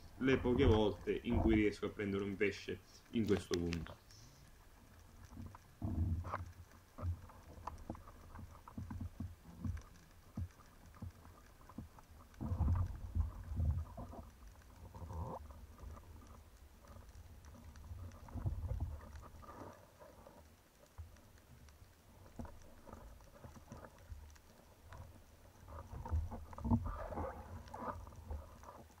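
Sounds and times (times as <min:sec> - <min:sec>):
underwater knocks and thumps: 0:00.1 - 0:02.0, 0:05.2 - 0:21.3, 0:22.2 - 0:29.0.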